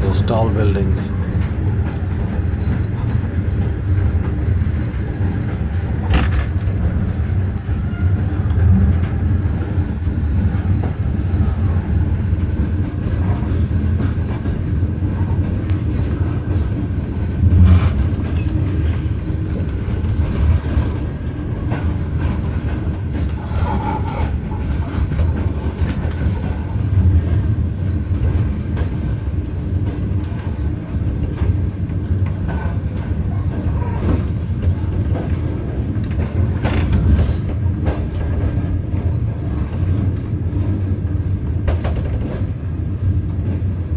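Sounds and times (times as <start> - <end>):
train rumbling on rails: 0.0 - 43.9.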